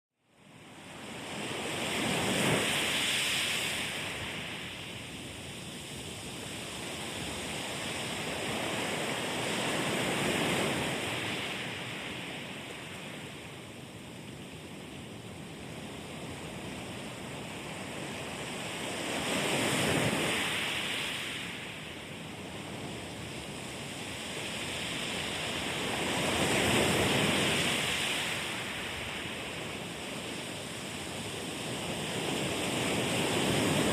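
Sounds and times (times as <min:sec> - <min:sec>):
sea waves washing ashore: 0:00.4 - 0:33.9.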